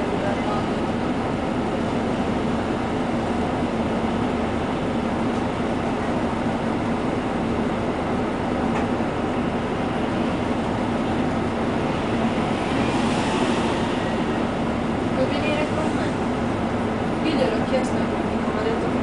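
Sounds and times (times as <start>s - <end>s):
bus engine idling: 0.0s - 19.0s.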